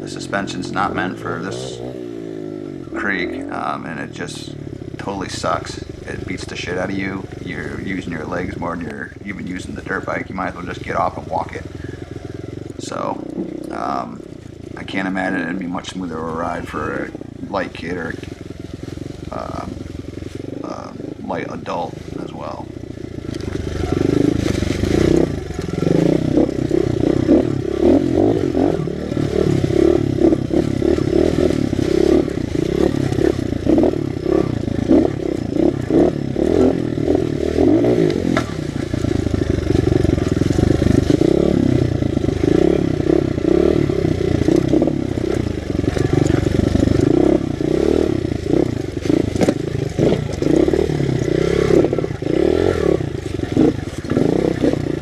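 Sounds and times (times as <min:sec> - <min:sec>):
rattling and knocking suspension: 0:00.0 - 0:21.9, 0:22.5 - 0:55.0
motorcycle engine revving unevenly: 0:00.0 - 0:55.0.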